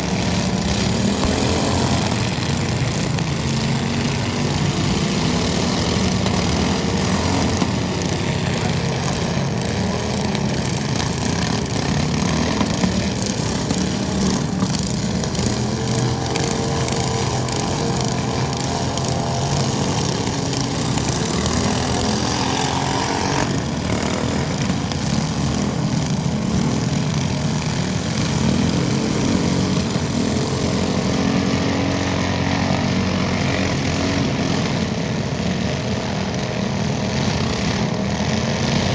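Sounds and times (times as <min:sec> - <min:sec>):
small tractor engine droning: 0:00.0 - 0:38.9.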